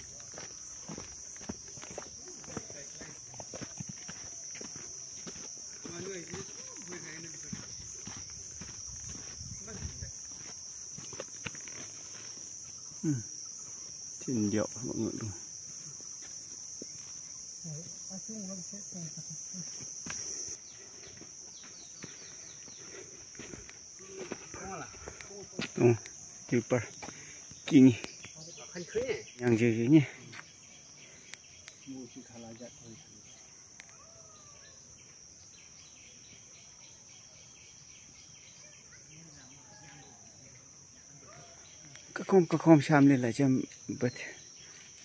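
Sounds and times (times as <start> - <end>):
insects shrilling: 0.0 - 45.0.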